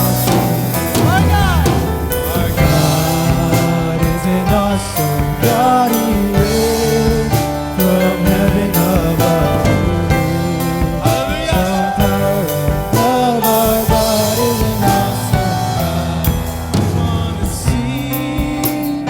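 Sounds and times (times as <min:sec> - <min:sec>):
cymbals: 0:00.0 - 0:19.0
full band playing: 0:00.0 - 0:19.0
person singing melody: 0:00.0 - 0:19.0.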